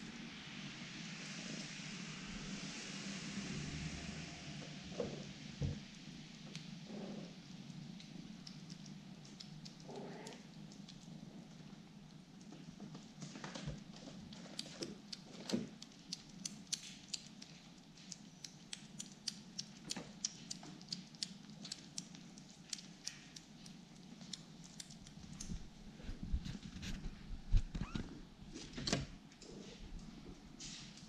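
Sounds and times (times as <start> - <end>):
kittens eating wet food: 4.2 - 31.0.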